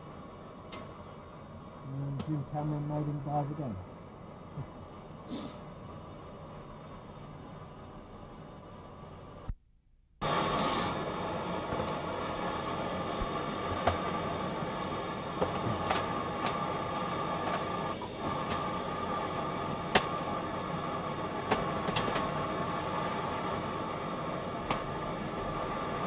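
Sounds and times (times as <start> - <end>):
machinery hum and hiss: 0.0 - 9.5, 10.2 - 26.0.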